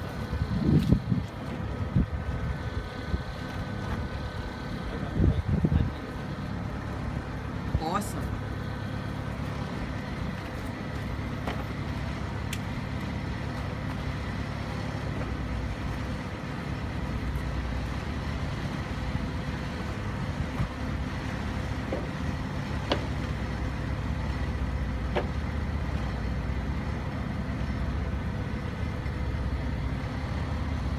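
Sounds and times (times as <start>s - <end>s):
forklift engine idling: 0.0s - 30.9s.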